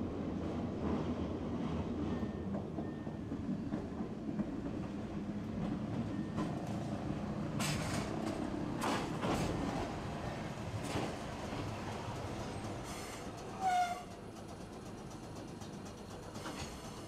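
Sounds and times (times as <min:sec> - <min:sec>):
tram rumbling on rails: 0:00.0 - 0:17.0.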